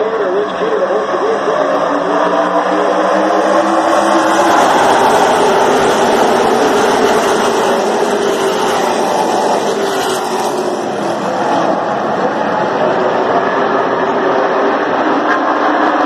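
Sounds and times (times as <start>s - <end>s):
race truck engines roaring: 0.0s - 16.0s.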